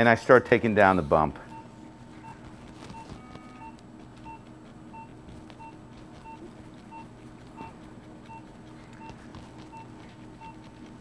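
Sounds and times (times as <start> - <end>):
low equipment hum: 0.0 - 11.0
patient monitor beeps: 1.3 - 10.7.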